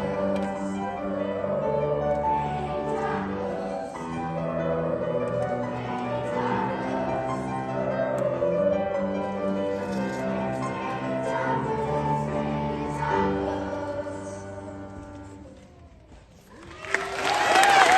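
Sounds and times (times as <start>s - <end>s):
choir singing sustained notes: 0.0s - 15.6s.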